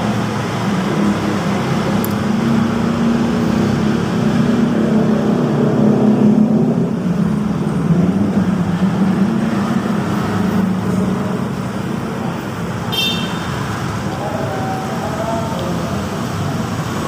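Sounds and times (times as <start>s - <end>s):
loud engine drone: 0.0s - 12.9s, 13.5s - 17.0s.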